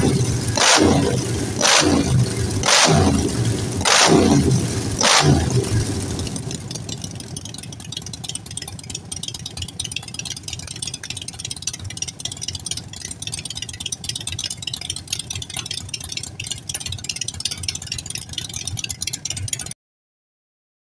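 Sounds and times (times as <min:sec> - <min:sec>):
motorcycle engines idling: 0:00.0 - 0:19.8.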